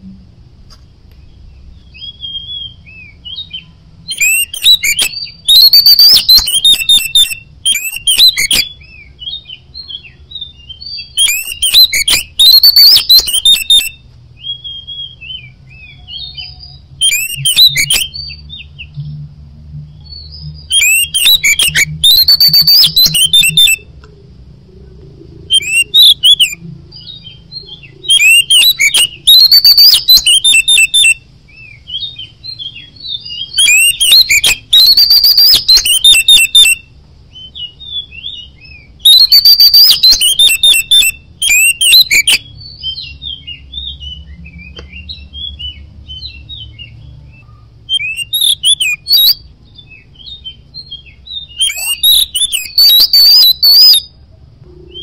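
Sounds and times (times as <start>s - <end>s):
magpie-robin singing: 1.2s - 19.2s, 19.8s - 24.1s, 25.4s - 55.0s
bird chirps and whistles: 1.8s - 19.1s, 19.9s - 23.9s, 25.4s - 55.0s.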